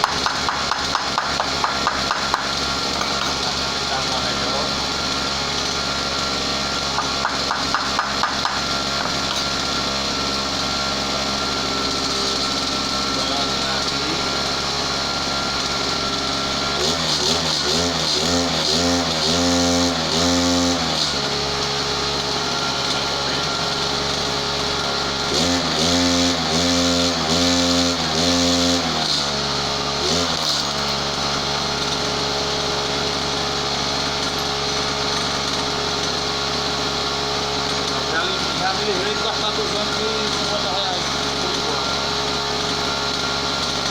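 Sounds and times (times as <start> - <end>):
brushcutter engine idling and revving: 0.0 - 43.9.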